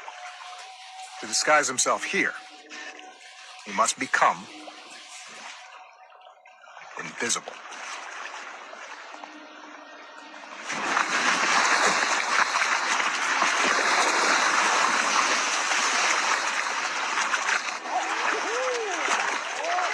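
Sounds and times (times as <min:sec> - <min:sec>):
water splashing and rushing: 0:00.0 - 0:19.9.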